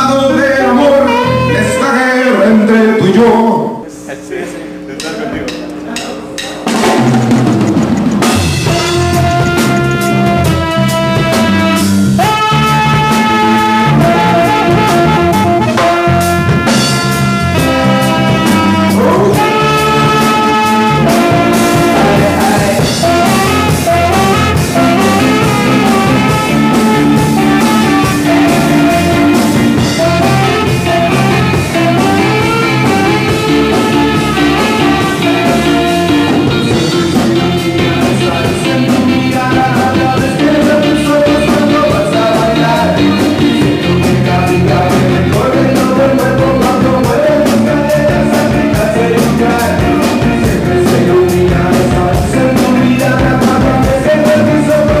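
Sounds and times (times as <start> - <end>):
rock band playing ska: 0.0 - 3.8, 4.8 - 55.0
person singing: 0.0 - 3.9, 8.6 - 16.2, 17.1 - 55.0
steady drum beat: 4.7 - 55.0.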